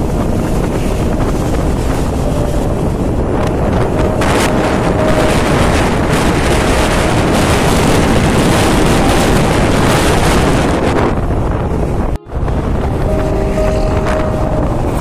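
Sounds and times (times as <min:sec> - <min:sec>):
motorcycle running: 0:00.0 - 0:15.0
road noise: 0:00.0 - 0:15.0
wind rush on microphone: 0:00.0 - 0:15.0.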